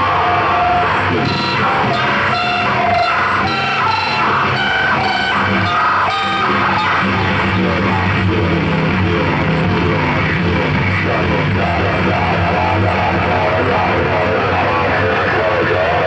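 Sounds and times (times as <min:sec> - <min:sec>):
distorted noise music: 0:00.0 - 0:16.0
steady low drone: 0:00.0 - 0:16.0.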